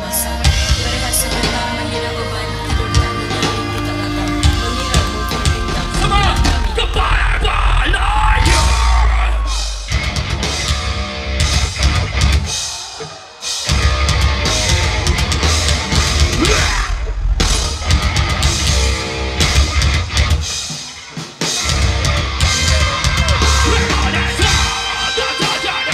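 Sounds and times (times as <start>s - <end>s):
bass guitar: 0.0s - 12.7s, 13.6s - 20.7s, 21.4s - 25.9s
drum kit: 0.0s - 25.9s
electric guitars: 0.0s - 25.9s.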